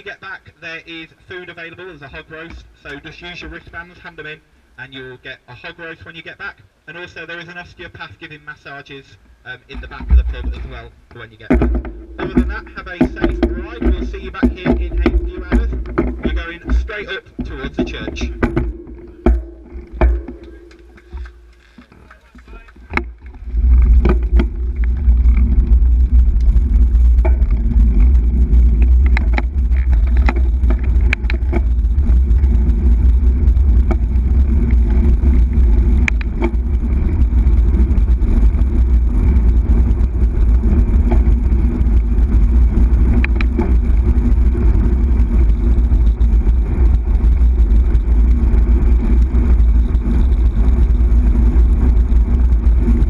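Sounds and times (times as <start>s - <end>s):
road rumble: 0.0s - 53.0s
wind buffeting: 9.7s - 53.0s.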